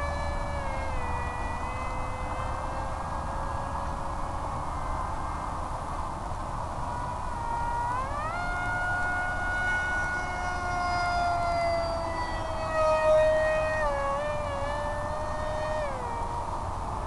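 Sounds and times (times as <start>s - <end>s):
electric motor and propeller whining: 0.0s - 17.0s.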